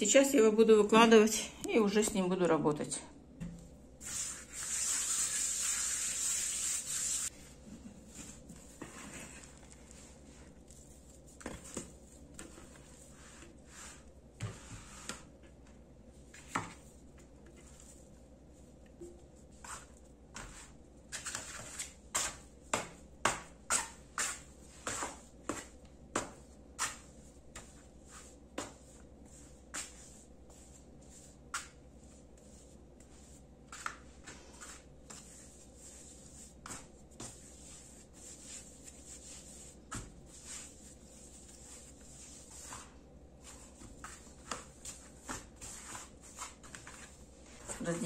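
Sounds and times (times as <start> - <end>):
hand spreading flour: 4.0 - 18.7, 19.3 - 48.0.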